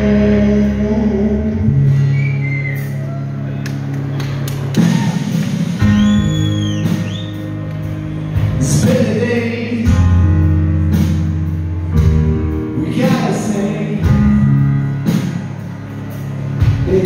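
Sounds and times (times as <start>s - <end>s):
bass line: 0.0s - 17.0s
keyboard chords: 0.0s - 17.0s.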